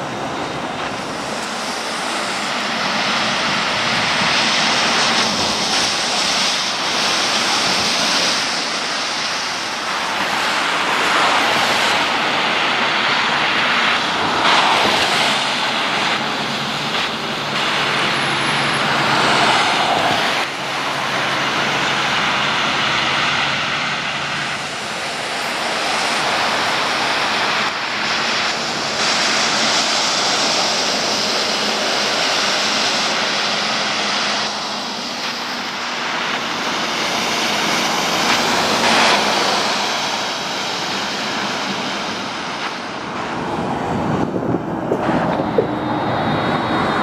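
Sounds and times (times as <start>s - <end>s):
diesel engines humming: 0.0s - 47.0s
tyres hissing on wet road: 0.0s - 47.0s.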